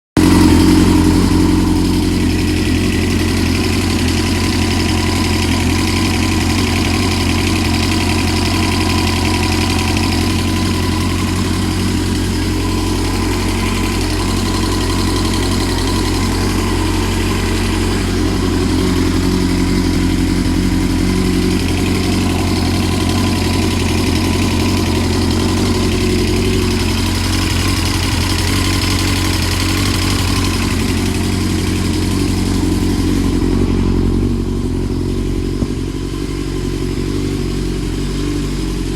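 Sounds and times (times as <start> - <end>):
dirt bike engine idling: 0.1 - 38.9
engine ticking noise: 0.1 - 38.9.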